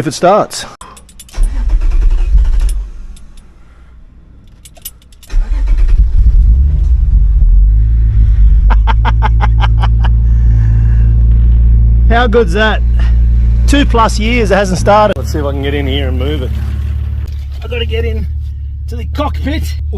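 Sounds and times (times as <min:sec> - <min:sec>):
car engine cranking: 0:00.8 - 0:03.6, 0:04.3 - 0:19.8
car engine idling: 0:00.8 - 0:19.9.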